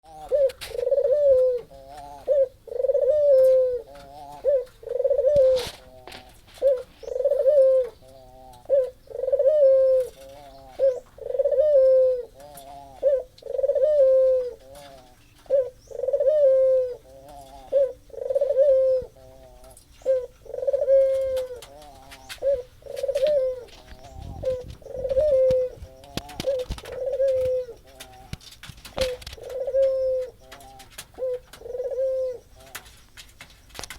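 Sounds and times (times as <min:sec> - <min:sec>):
dove cooing: 0:00.0 - 0:33.9.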